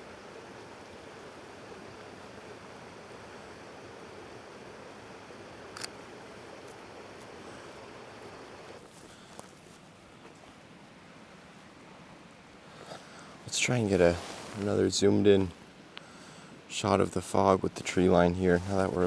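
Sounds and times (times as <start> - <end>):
stream flowing water: 0.0 - 19.0.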